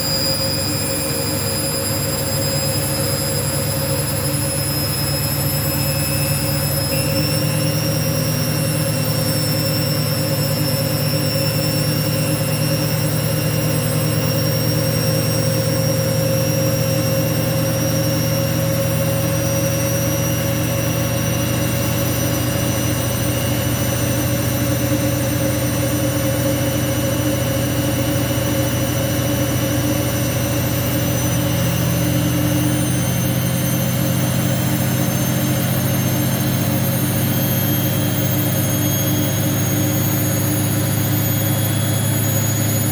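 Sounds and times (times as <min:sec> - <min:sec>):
high motor whine: 0:00.0 - 0:42.9
washing machine hum: 0:00.0 - 0:42.9.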